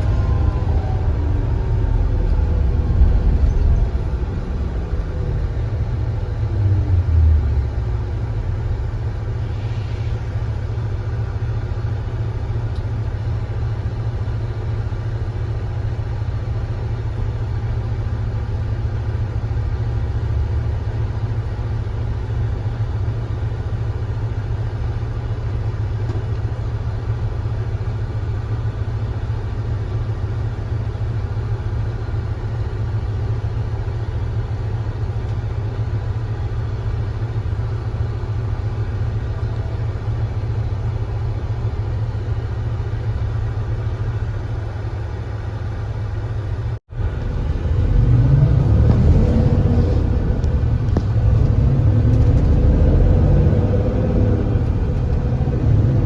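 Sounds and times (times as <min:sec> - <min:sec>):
bus engine winding down and idling: 0:00.0 - 0:56.0.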